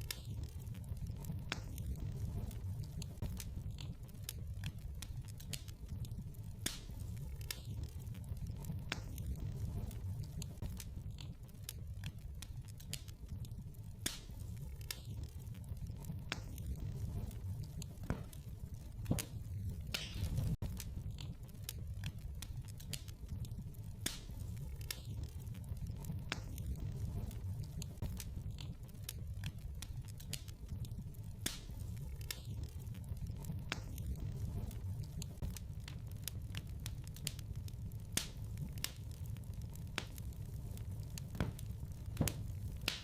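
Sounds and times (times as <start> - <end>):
low fire rumble: 0.0 - 43.0
wood fire crackling and popping: 0.0 - 43.0.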